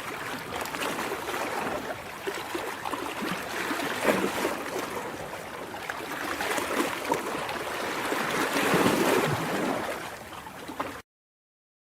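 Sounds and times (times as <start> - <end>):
ocean waves washing in: 0.0 - 10.8.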